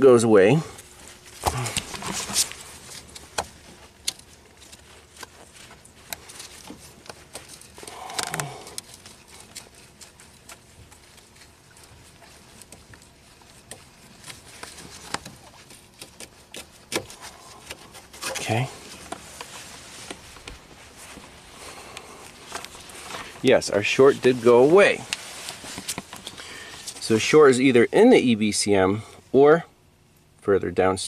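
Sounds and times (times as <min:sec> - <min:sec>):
gloves rubbing and rustling: 0:00.0 - 0:29.4.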